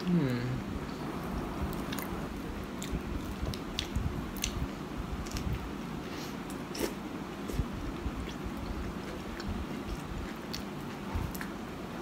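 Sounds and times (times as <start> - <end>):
wet chewing mouth sounds: 1.8 - 11.6.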